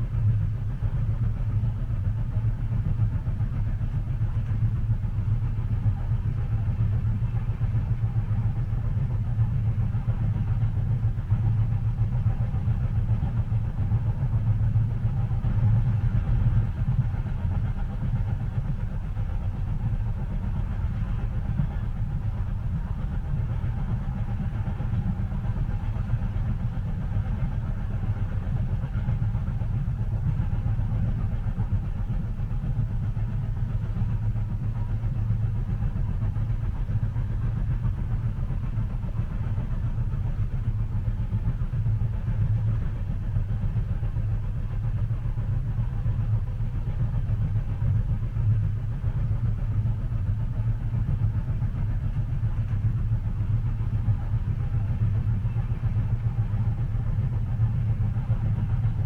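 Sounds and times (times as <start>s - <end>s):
train carriage rumbling on track: 0.0s - 59.0s.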